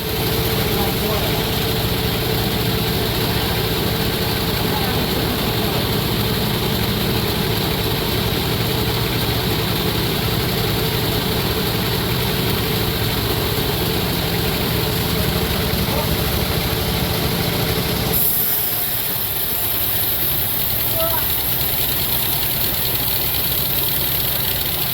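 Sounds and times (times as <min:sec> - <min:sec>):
sawmill machinery droning: 0:00.0 - 0:24.9.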